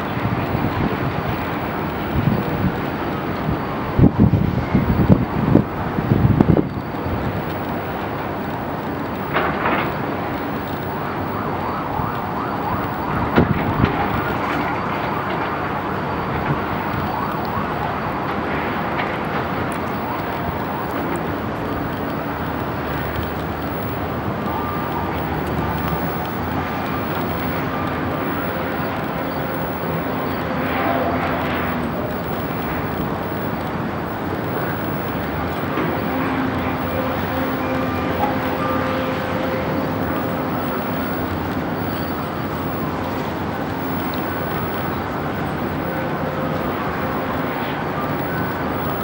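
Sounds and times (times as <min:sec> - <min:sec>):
distant city traffic: 0:00.0 - 0:49.0.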